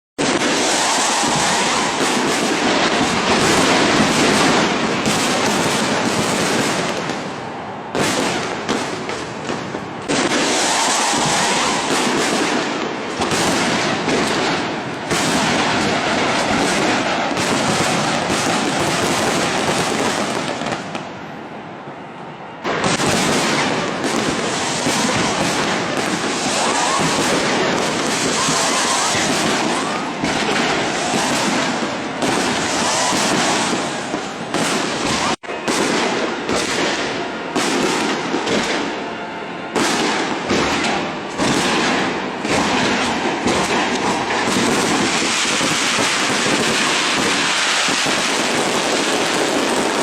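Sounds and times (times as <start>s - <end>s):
fireworks going off: 0.2s - 50.0s.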